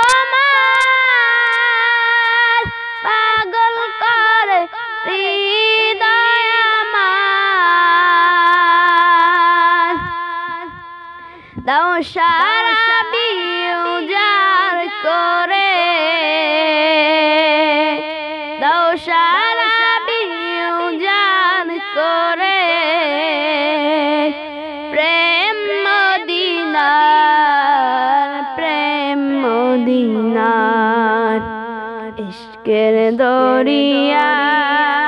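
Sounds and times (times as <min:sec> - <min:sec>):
boy singing wordless melody: 0:00.0 - 0:35.0.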